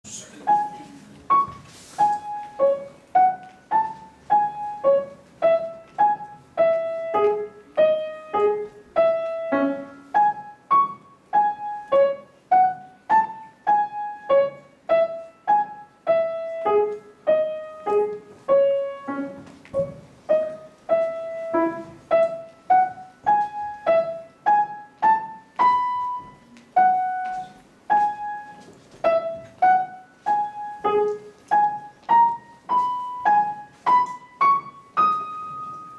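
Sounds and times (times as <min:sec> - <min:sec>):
grand piano melody: 0:00.1 - 0:35.9.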